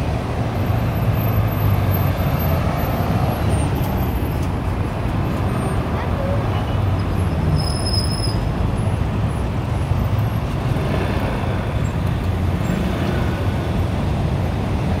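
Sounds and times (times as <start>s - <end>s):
traffic rumble on cobblestones: 0.0s - 15.0s.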